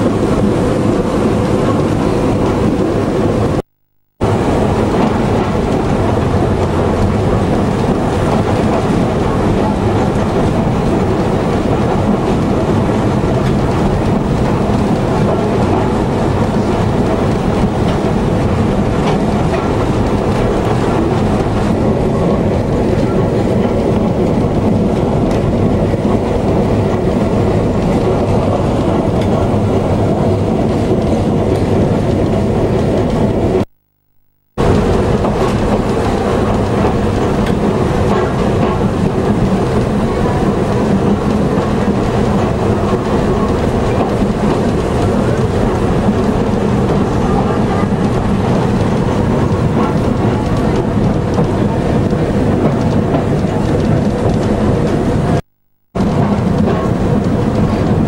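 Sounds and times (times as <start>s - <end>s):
railcar engine drone: 0.0s - 3.6s, 4.2s - 33.6s, 34.6s - 55.4s
wheels rumbling on rails: 0.0s - 3.6s, 4.2s - 33.6s, 34.6s - 55.4s, 56.0s - 58.0s.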